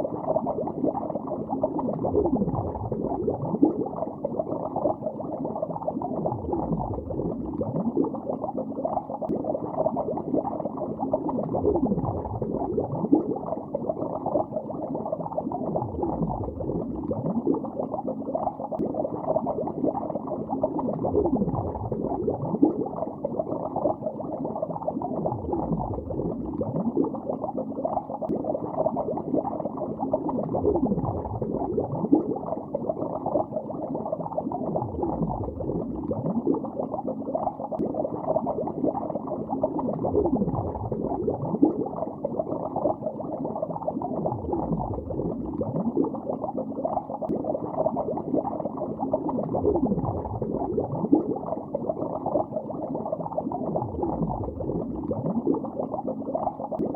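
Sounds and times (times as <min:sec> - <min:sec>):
deep gurgling: 0:00.0 - 0:18.2, 0:18.8 - 0:56.9
muffled underwater bubbling: 0:00.0 - 0:56.9.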